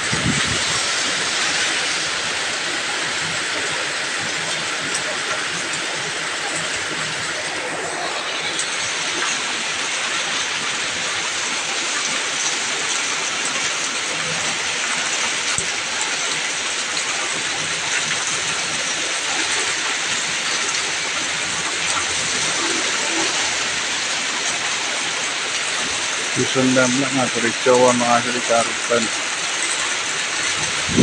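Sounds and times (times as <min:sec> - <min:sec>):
heavy rain on road: 0:00.0 - 0:31.0.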